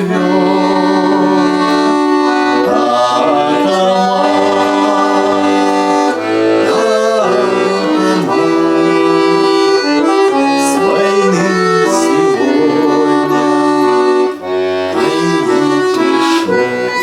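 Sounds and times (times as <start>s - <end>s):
accordion playing chords: 0.0s - 17.0s.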